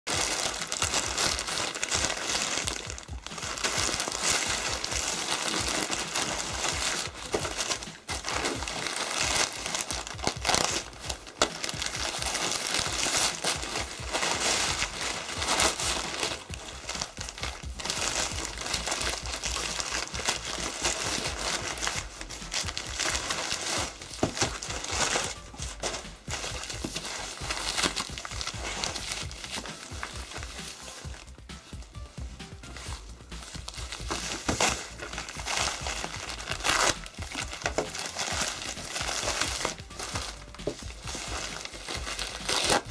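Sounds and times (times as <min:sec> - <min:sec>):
packaging crinkling and rustling: 0:00.1 - 0:42.9.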